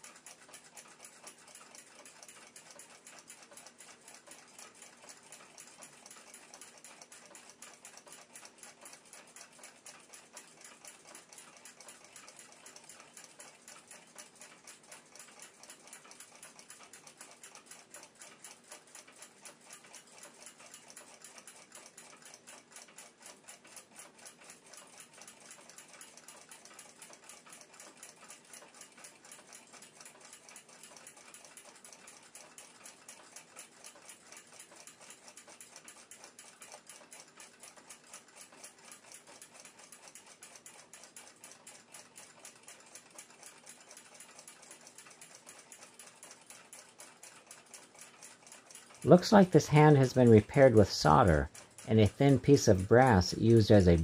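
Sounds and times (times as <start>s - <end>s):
mechanical clock ticking: 0.0s - 54.0s.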